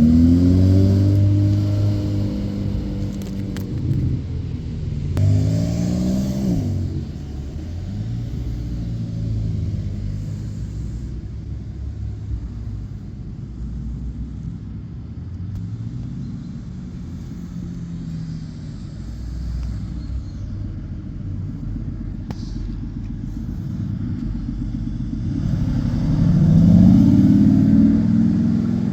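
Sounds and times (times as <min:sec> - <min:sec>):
car engine accelerating: 0:00.0 - 0:28.9
sports car engines rumbling: 0:00.0 - 0:28.9.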